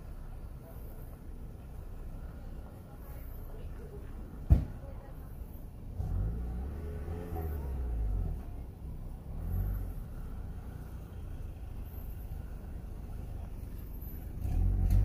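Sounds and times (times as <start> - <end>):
car creeping slowly: 0.0 - 15.0.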